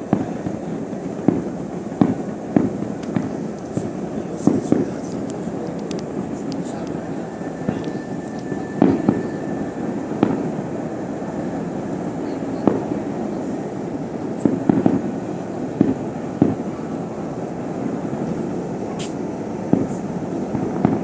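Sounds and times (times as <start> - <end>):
distant fireworks bangs: 0.0 - 21.0
high crackle: 0.0 - 21.0
low rumble: 0.0 - 21.0.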